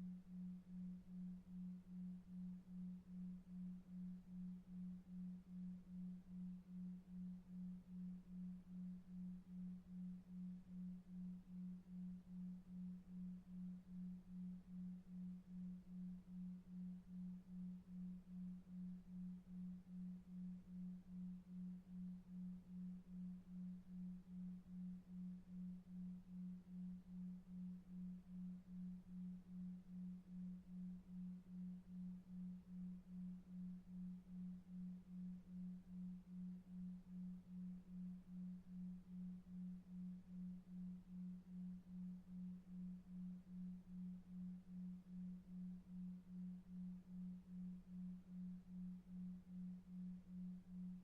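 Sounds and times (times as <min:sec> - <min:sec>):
low pulsing pure tone: 0:00.0 - 0:51.0.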